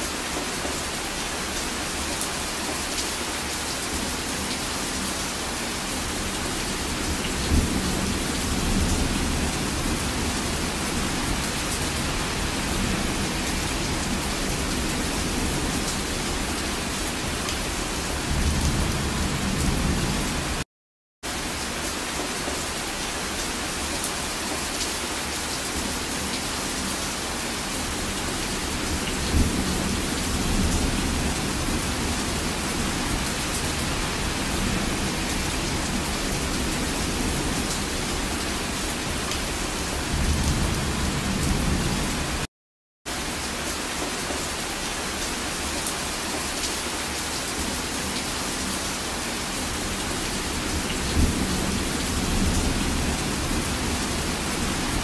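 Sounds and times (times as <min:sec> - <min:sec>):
heavy rain: 0:00.0 - 0:42.5, 0:43.1 - 0:55.0.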